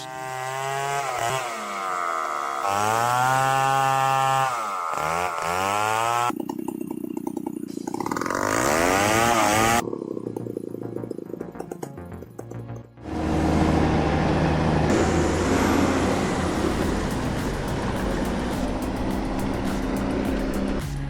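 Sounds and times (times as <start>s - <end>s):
chainsaw revving: 0.0s - 11.3s, 13.0s - 20.8s.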